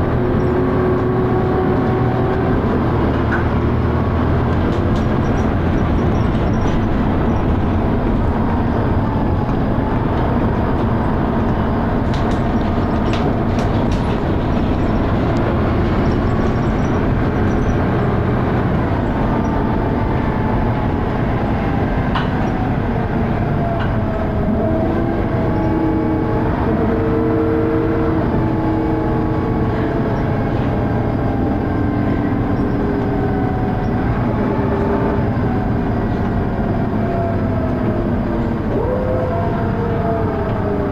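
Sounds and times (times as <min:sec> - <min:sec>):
bus engine thrash with whine: 0:00.0 - 0:40.9.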